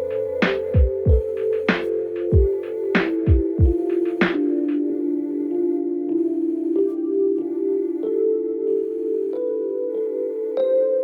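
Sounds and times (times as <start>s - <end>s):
soft synthesizer notes: 0.0s - 11.0s.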